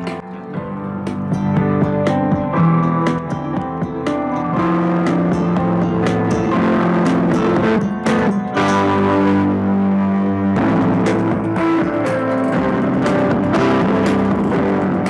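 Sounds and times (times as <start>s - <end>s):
bass-heavy music from a soundbar: 0.0s - 15.0s.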